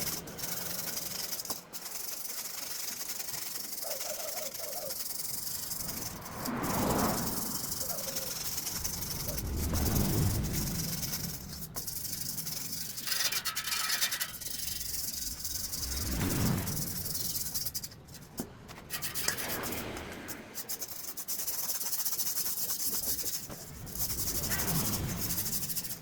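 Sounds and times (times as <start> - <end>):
rubbing and scraping by hand: 0.0 - 26.0.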